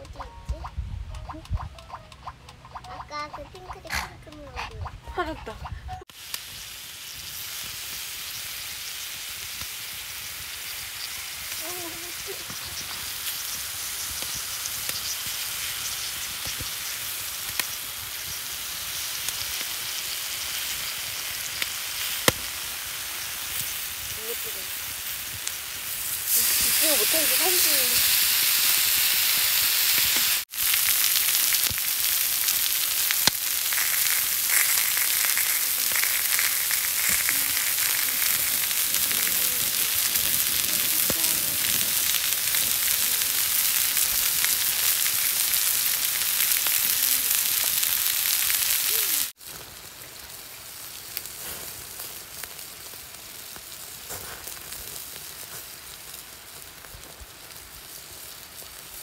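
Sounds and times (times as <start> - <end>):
food sizzling: 0.0 - 59.0.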